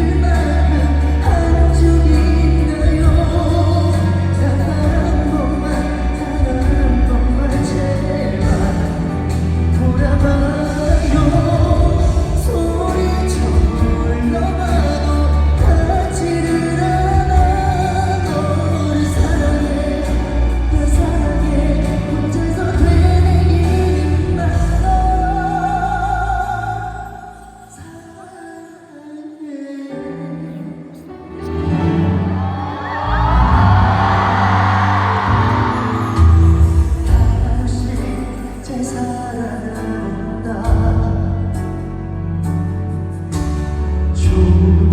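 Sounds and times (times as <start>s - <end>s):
pop band with strong bass: 0.0s - 28.2s, 29.5s - 44.9s
man singing amplified: 0.0s - 44.9s.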